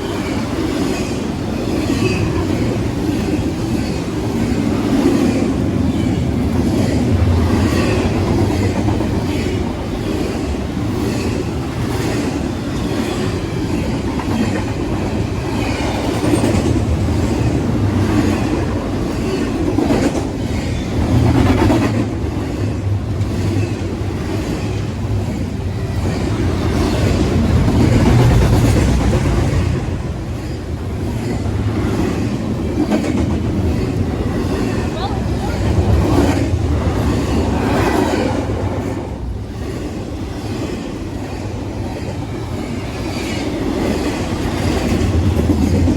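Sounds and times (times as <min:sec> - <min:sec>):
freight train rumbling: 0:00.0 - 0:45.9.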